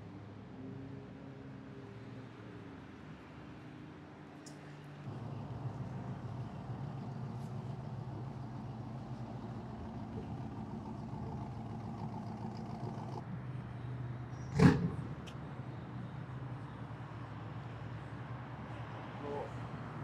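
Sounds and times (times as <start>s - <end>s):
traffic engine hum: 2.0s - 20.0s.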